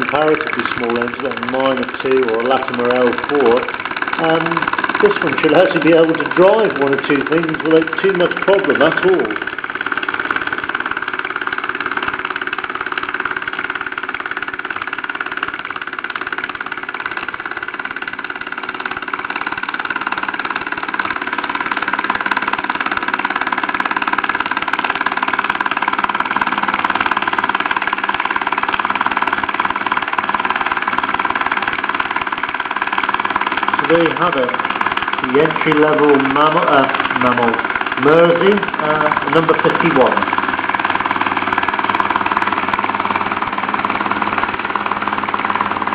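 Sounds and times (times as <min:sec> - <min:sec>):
toy steam engine hissing and chuffing: 0:00.0 - 0:45.9.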